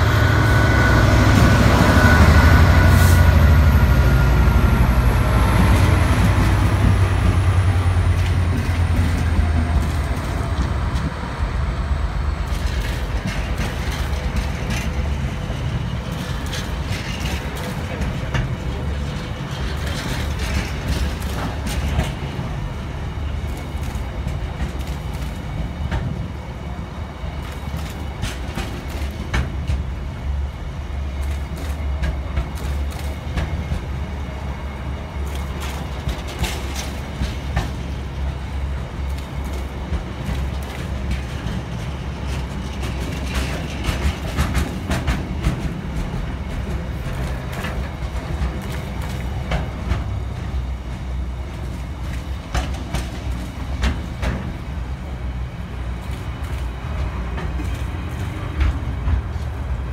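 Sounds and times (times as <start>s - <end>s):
freight train rolling past: 0.0s - 59.9s
wheels clacking on rails: 0.0s - 59.9s.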